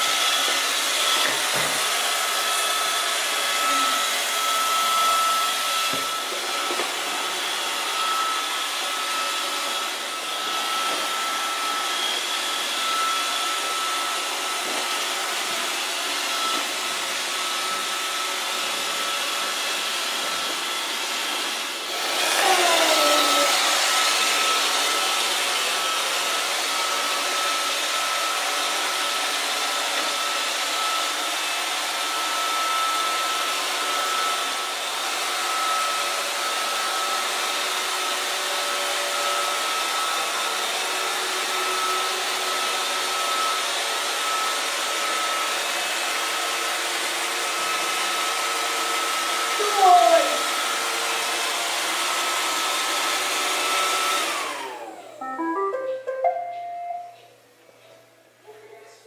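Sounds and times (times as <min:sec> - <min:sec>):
robot vacuum whirring: 0:00.0 - 0:55.2.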